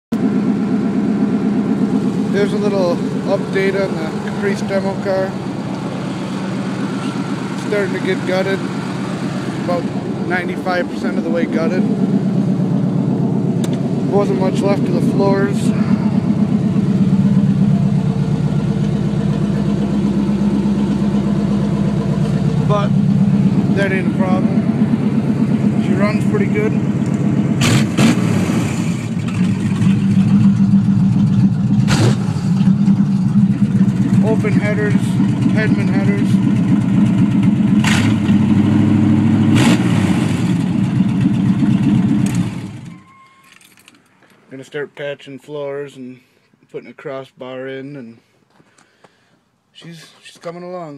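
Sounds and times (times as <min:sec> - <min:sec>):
car engine idling: 0:00.1 - 0:43.9.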